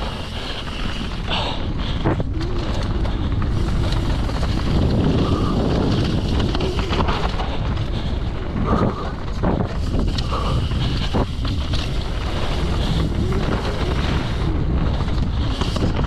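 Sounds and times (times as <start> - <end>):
bike clicks and knocks: 0.0 - 16.0
bike tyres rolling: 0.0 - 16.0
wind buffeting microphone: 0.0 - 16.0.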